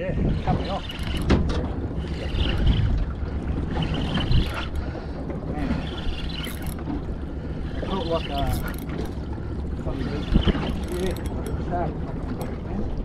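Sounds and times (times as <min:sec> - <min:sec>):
outboard motor running: 0:00.0 - 0:13.0
water noise: 0:00.0 - 0:13.0
wind: 0:00.0 - 0:13.0.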